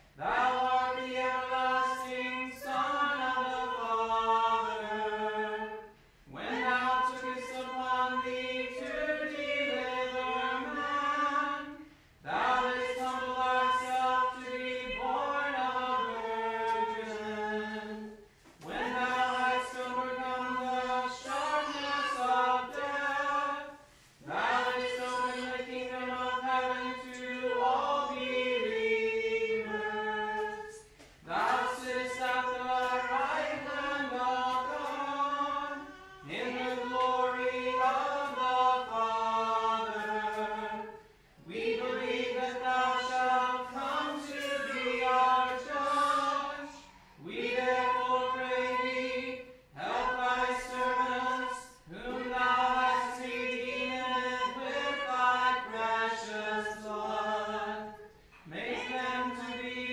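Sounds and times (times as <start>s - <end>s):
voices chanting in unison: 0.2s - 59.9s.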